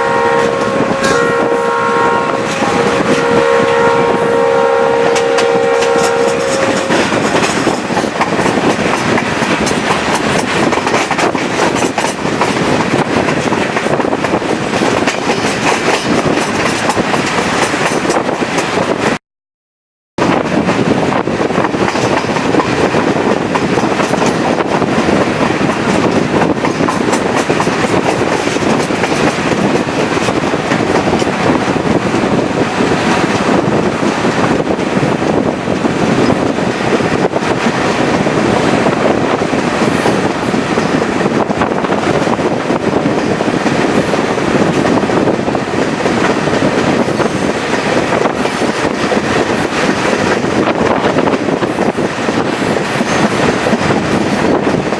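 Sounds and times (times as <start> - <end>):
train wheels on rails: 0.0 - 19.2, 20.2 - 54.9.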